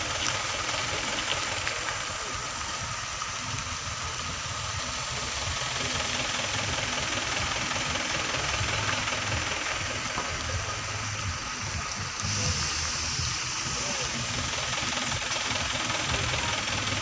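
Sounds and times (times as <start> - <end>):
tyres rolling on dirt road: 0.0 - 17.0
vehicle engines passing slowly: 0.0 - 17.0.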